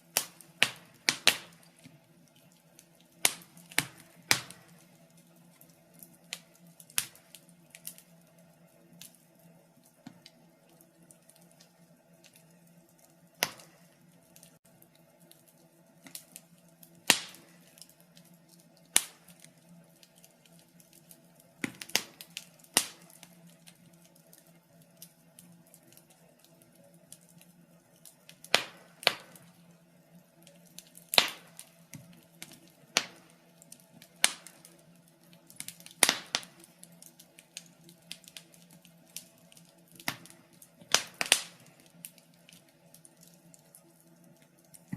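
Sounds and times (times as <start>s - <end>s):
fire pops and snaps: 0.0s - 44.9s
wood fire crackling: 0.0s - 44.9s.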